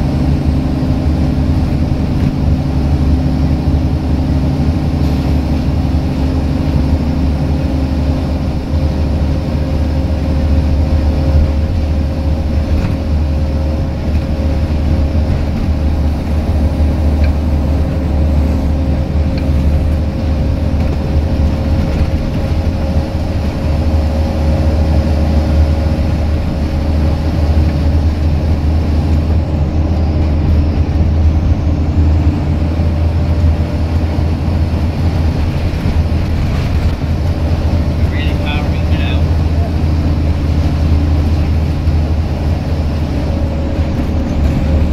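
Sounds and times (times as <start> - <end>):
bus diesel engine droning: 0.0 - 44.9
engine whine: 0.0 - 44.9
road noise: 0.0 - 44.9.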